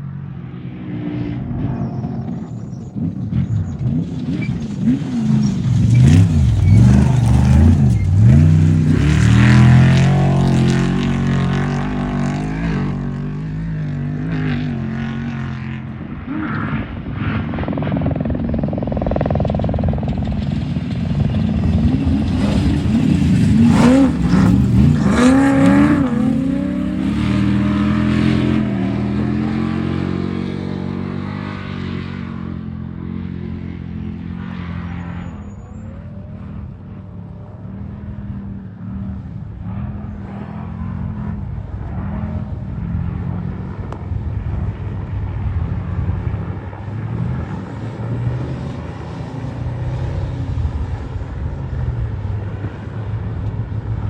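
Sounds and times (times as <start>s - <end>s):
race vehicle engine revving: 0.8s - 45.0s.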